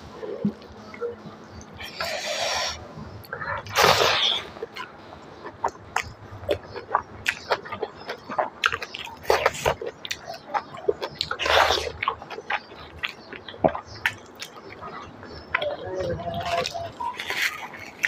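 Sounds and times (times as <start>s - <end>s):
person chewing food: 1.4s - 18.0s.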